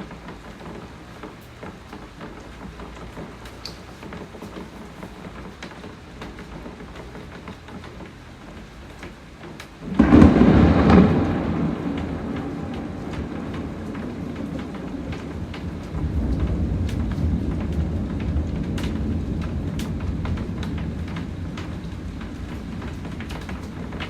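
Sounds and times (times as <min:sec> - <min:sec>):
raindrops ticking: 0:00.0 - 0:24.0
steady rain: 0:00.0 - 0:24.0
thunderclap and rumble: 0:00.0 - 0:24.0.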